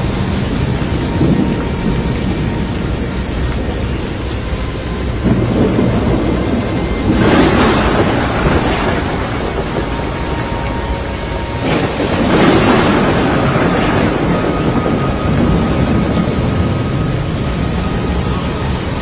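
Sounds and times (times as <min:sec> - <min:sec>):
deep thunder rumbling: 0:00.0 - 0:19.0
heavy rain: 0:00.0 - 0:19.0
wind: 0:00.0 - 0:19.0.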